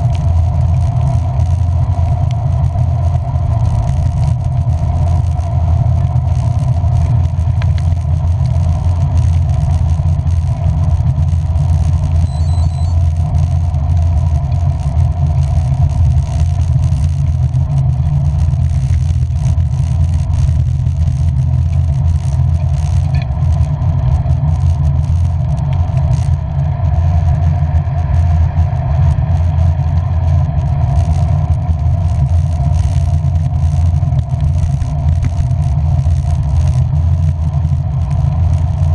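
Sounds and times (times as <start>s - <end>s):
vehicle road rumble in rain: 0.0s - 38.9s.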